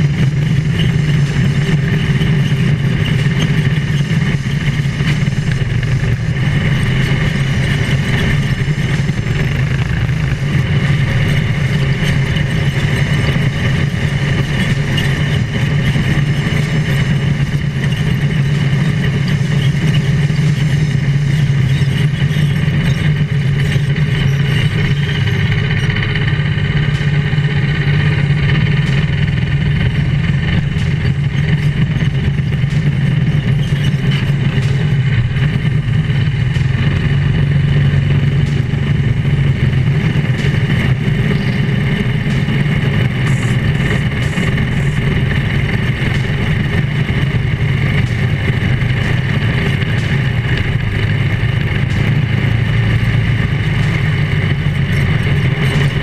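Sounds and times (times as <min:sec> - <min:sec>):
small kart engine running: 0:00.0 - 0:56.0.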